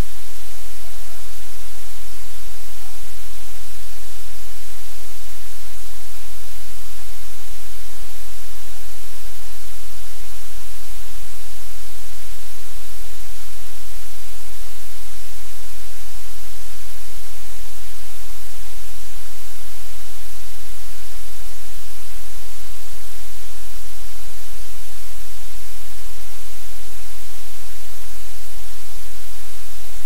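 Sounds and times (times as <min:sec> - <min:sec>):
loud static hiss: 0:00.0 - 0:30.0.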